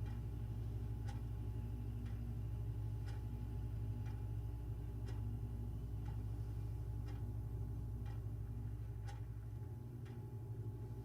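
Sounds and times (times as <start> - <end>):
clock ticking: 0.0 - 10.7
low room hum: 0.0 - 11.0.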